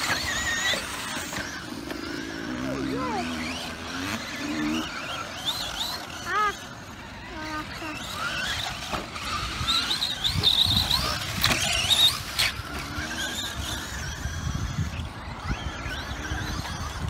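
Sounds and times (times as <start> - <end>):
electric motor whining: 0.0 - 17.0
tyres rumbling on loose dirt: 0.0 - 17.0.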